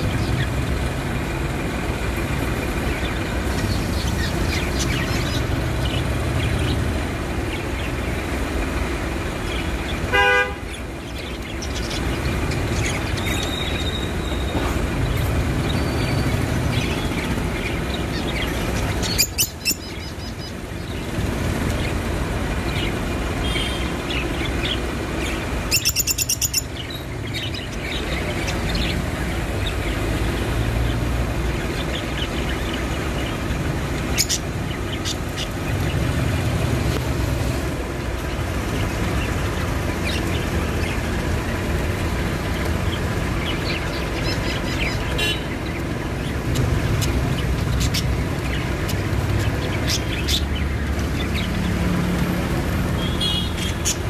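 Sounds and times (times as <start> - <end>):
street traffic rumble: 0.0 - 54.0
budgerigars chirping: 2.0 - 8.3, 9.5 - 21.9, 22.6 - 30.0, 30.9 - 37.0, 38.2 - 52.0, 53.0 - 54.0.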